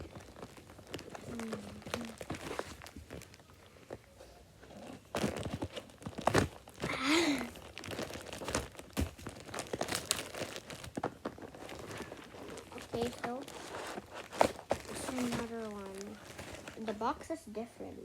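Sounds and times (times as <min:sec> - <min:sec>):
plastic packaging crinkling: 0:00.0 - 0:17.4.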